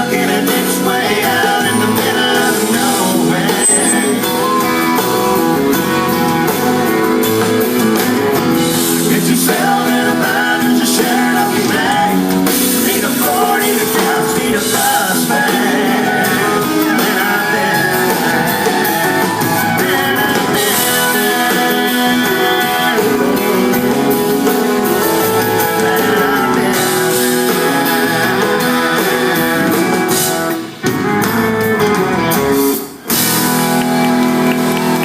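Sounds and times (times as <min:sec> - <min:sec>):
live rock band with guitars: 0:00.0 - 0:35.0.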